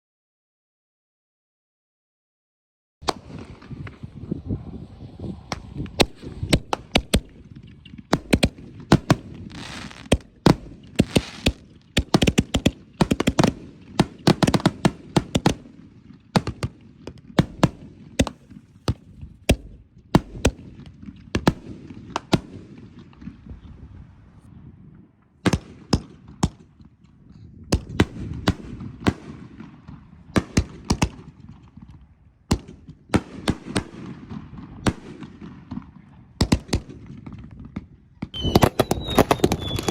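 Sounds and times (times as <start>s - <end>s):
fireworks bangs and crackling: 3.0s - 27.0s, 27.6s - 39.9s.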